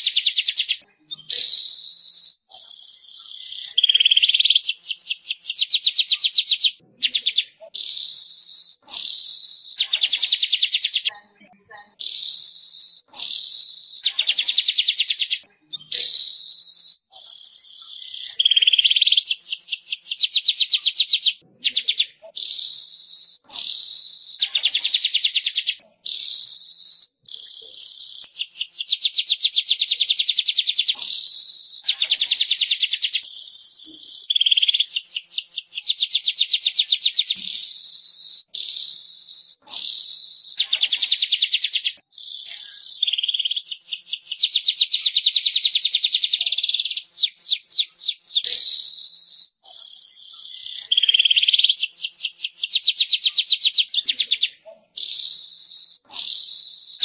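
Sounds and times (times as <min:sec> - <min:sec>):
bird buzzy ticking trills: 0:00.0 - 0:11.1, 0:12.0 - 0:57.0.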